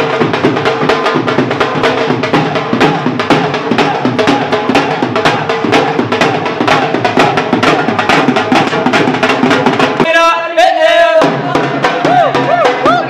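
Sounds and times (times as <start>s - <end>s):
barrel drums beaten with sticks: 0.0s - 13.0s.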